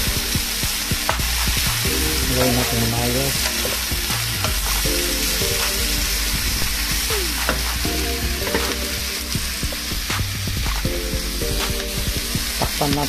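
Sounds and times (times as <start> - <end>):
meat and onion sizzling: 0.0 - 13.0.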